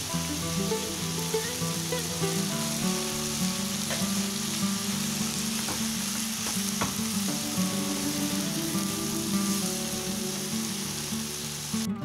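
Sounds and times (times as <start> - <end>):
cabbage sizzling in hot oil: 0.0 - 11.9
soft background music: 0.0 - 12.0.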